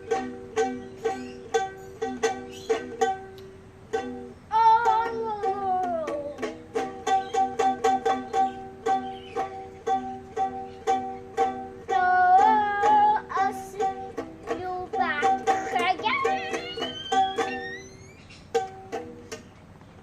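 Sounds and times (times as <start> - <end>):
plucked string instrument strumming: 0.0 - 19.7.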